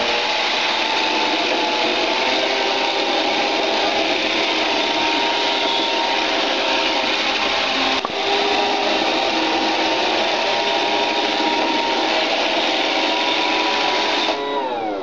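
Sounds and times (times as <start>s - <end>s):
robot vacuum whirring: 0.0s - 15.0s
steady tones: 0.0s - 15.0s.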